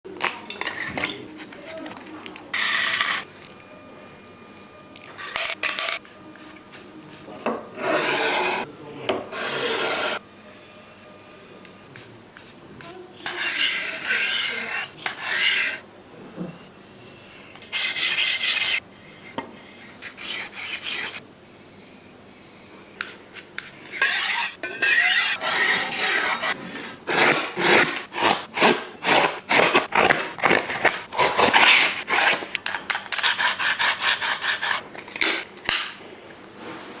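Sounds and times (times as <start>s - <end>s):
knife scraping through sharpener: 0.3s - 3.7s, 5.0s - 7.2s, 7.8s - 8.7s, 9.3s - 35.8s.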